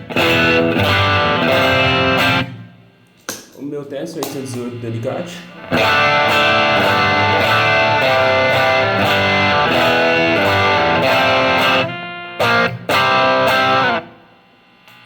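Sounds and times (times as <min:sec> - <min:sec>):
overdriven electric guitar: 0:00.0 - 0:02.8, 0:04.2 - 0:15.0.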